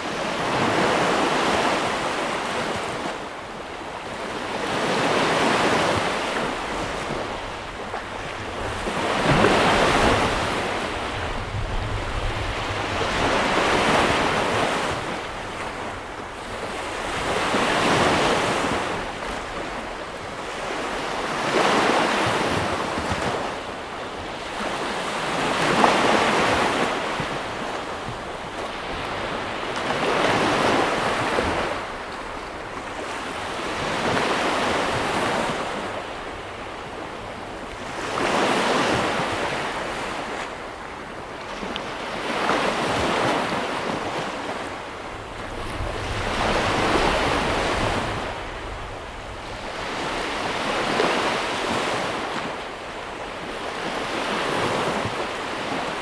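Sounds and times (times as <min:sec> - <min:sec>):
ocean waves breaking on shore: 0:00.0 - 0:56.0
wind on microphone: 0:04.0 - 0:56.0.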